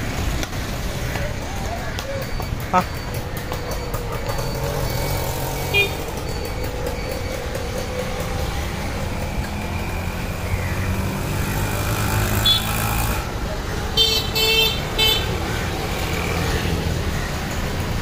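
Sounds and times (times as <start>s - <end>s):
traffic engines rumbling: 0.0s - 18.0s.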